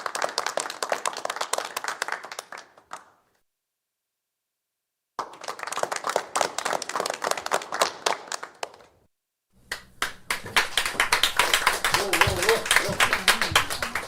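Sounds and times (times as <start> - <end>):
people applauding: 0.0 - 3.2, 5.2 - 9.0, 9.7 - 14.0.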